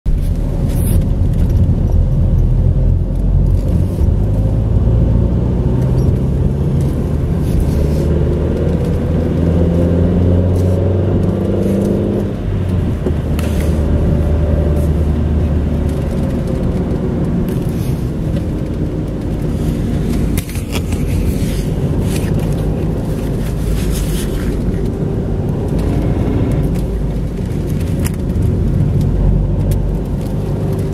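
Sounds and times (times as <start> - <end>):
road rumble: 0.0 - 30.9
car engine accelerating: 0.1 - 30.9.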